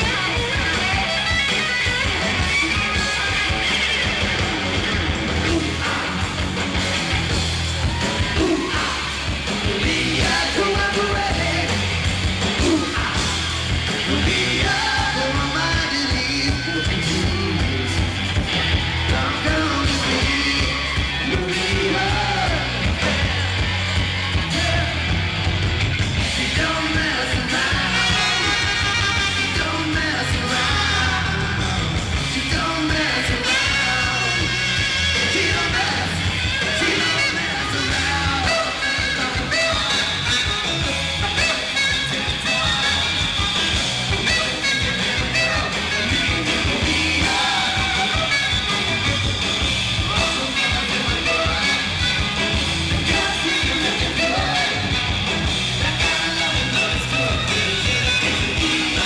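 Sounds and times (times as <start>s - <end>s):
drums: 0.0s - 59.0s
electric guitar: 0.0s - 59.0s
person yelling and singing: 5.4s - 6.4s, 7.8s - 17.9s, 19.1s - 23.4s, 26.4s - 49.3s, 50.0s - 59.0s.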